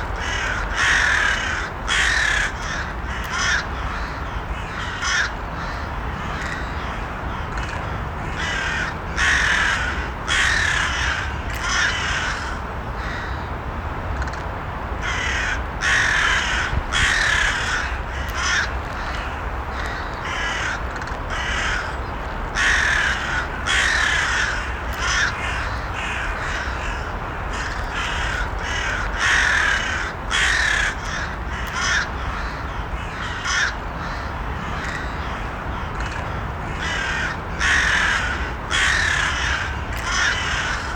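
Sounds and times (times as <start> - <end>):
crows cawing: 0.2 - 13.5, 15.0 - 40.9.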